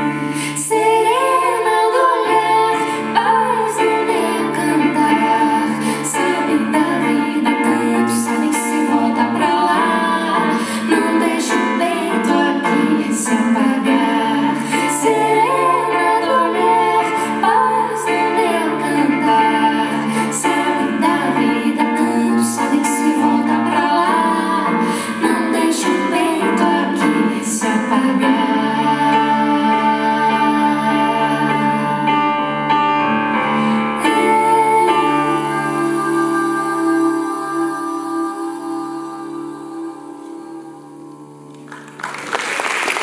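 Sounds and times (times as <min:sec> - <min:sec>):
woman singing: 0:00.0 - 0:32.6, 0:33.7 - 0:41.5
grand piano accompaniment: 0:00.0 - 0:43.0.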